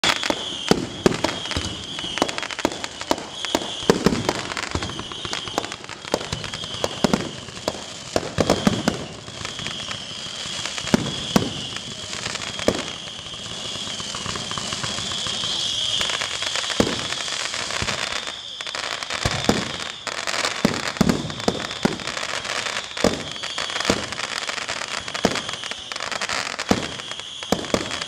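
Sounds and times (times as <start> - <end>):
fireworks bangs and pops: 0.0 - 28.0
fireworks crackling: 0.0 - 28.0.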